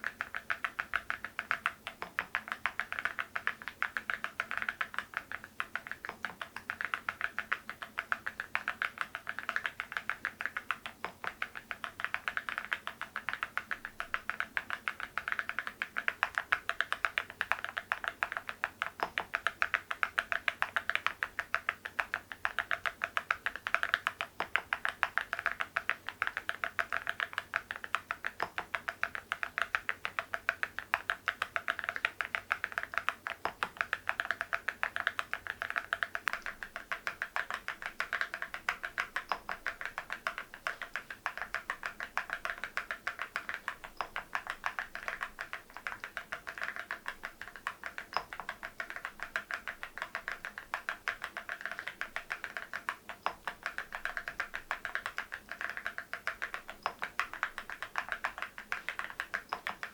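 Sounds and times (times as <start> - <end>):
fast typing on mechanical keyboard: 0.0 - 59.9.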